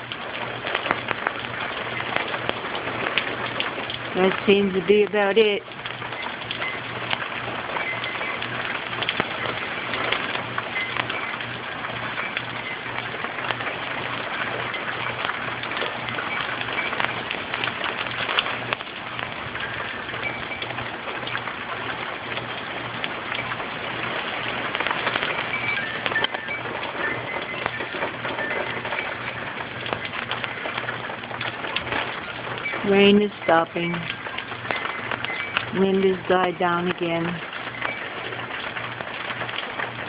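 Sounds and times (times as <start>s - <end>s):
heavy rain pattering: 0.0s - 40.0s
low steady hum: 0.0s - 40.0s.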